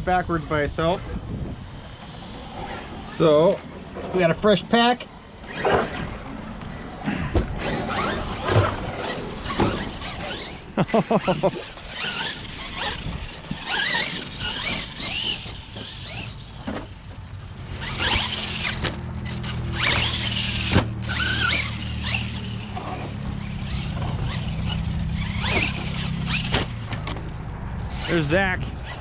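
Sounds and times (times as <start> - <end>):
electric motors whining: 5.3 - 29.0.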